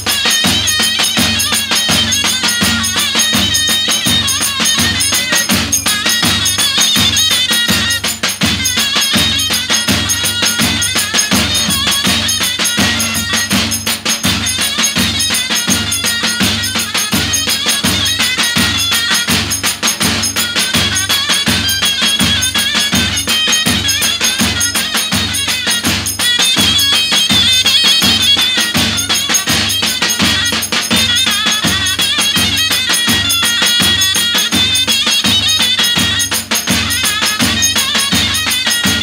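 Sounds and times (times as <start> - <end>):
drums beating steady rhythm: 0.0 - 39.0
zurna playing folk melody: 0.0 - 39.0.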